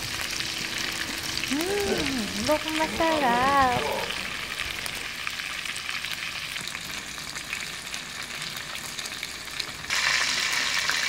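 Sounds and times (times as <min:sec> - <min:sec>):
prawns sizzling in oil: 0:00.0 - 0:11.0.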